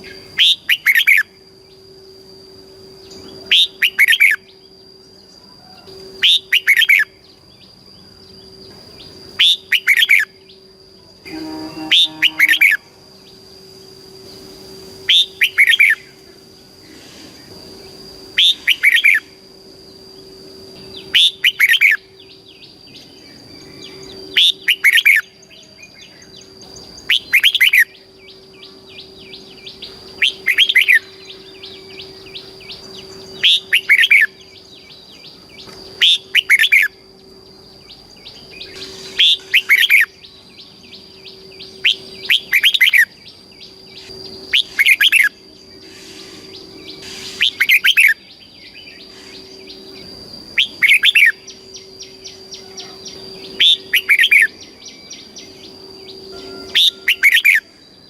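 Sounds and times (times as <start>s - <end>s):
bulbul singing: 0.0s - 58.0s
steady high-pitched tone: 0.0s - 58.0s.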